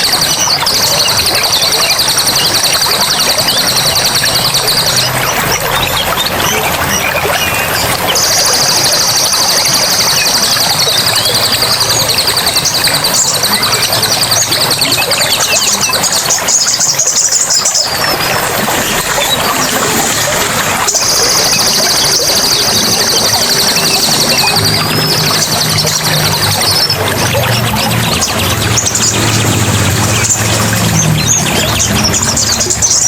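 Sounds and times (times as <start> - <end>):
high fast-pulsing trill: 0.0 - 33.0
running water: 0.0 - 33.0.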